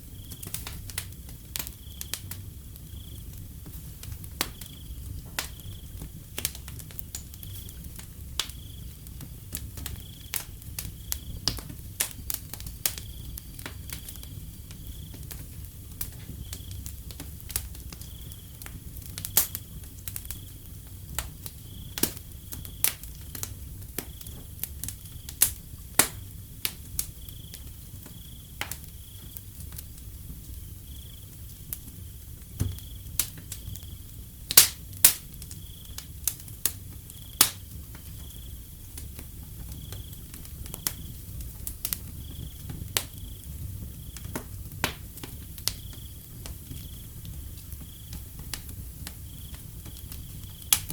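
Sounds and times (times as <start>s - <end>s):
cricket chirping: 0.0s - 50.9s
wood fire crackling and popping: 0.0s - 50.9s.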